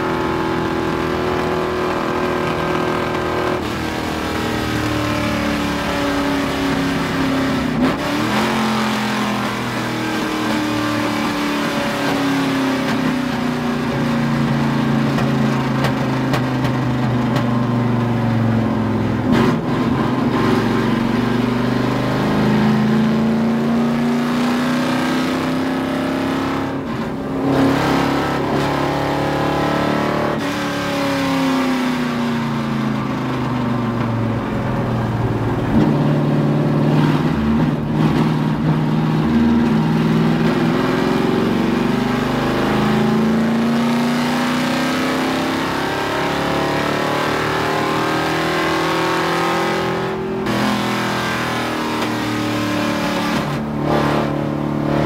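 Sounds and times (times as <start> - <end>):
race car engine from inside cabin: 0.0 - 55.0.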